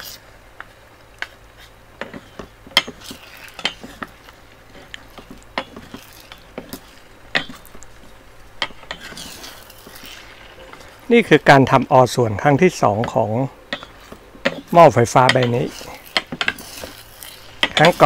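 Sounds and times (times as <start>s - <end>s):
wooden spatula scraping pot: 1.6s - 11.7s, 12.9s - 18.0s.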